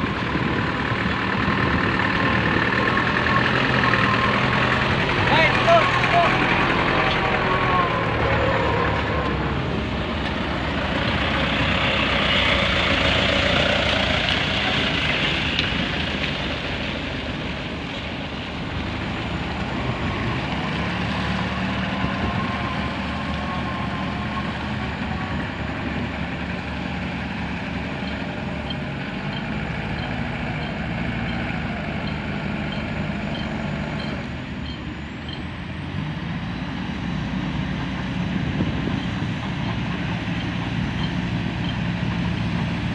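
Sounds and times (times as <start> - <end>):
diesel machinery running: 0.0 - 42.9.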